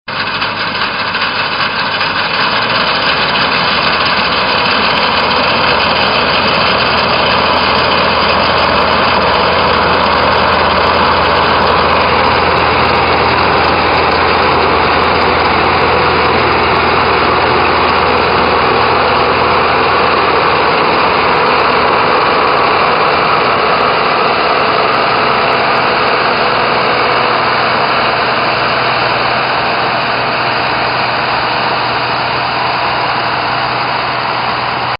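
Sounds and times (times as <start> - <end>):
combine harvester engine drone: 0.1 - 34.9.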